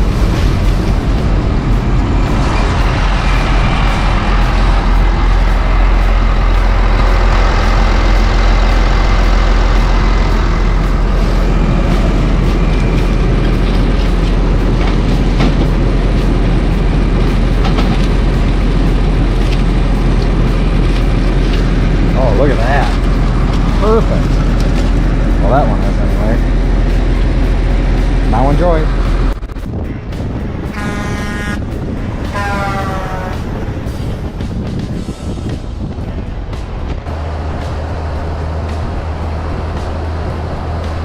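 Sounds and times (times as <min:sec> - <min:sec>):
combine harvester droning: 0:00.0 - 0:41.0.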